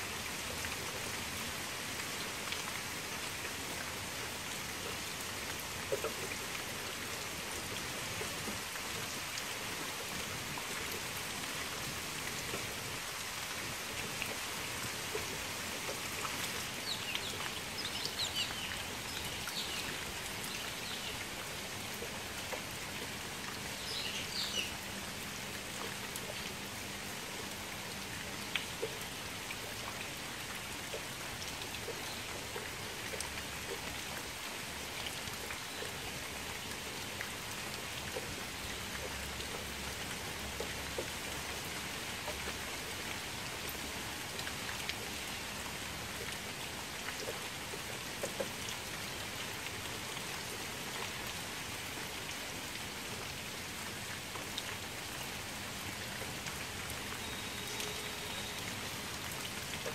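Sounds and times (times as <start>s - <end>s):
rain falling into water: 0.0s - 59.9s.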